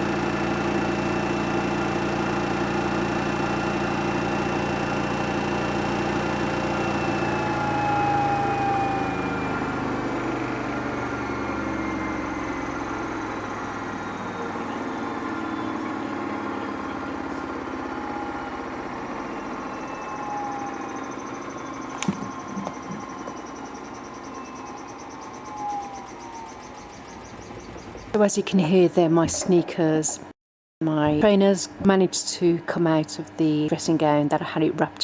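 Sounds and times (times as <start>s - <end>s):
washing machine motor whine: 0.0s - 30.0s.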